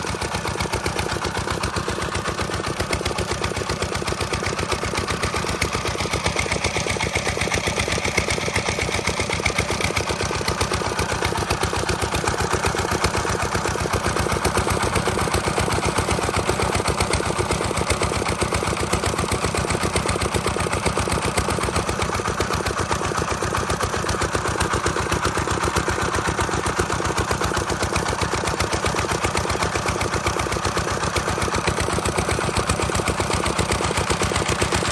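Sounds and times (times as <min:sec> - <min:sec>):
diesel pump engine knocking: 0:00.0 - 0:34.9.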